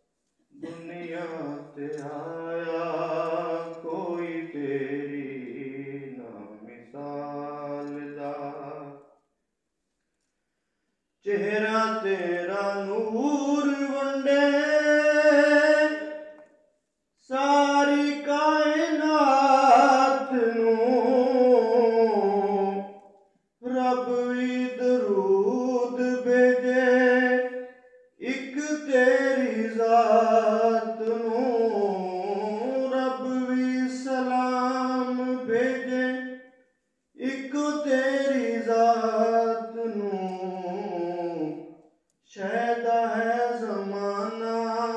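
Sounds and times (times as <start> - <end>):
man chanting into a microphone: 0.6 - 9.0, 11.2 - 16.2, 17.2 - 22.9, 23.6 - 36.4, 37.2 - 44.9.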